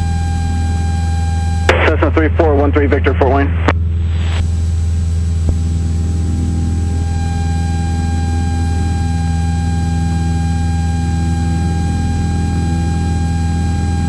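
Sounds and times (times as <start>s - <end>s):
propeller plane engine droning: 0.0s - 14.0s
thin steady whine: 0.0s - 14.0s.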